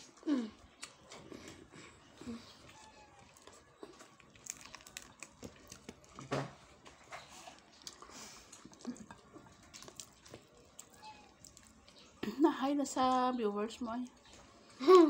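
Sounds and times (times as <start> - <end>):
child chewing and mouth smacks: 0.0 - 12.4
fingers clicking and crinkling food: 0.0 - 14.6.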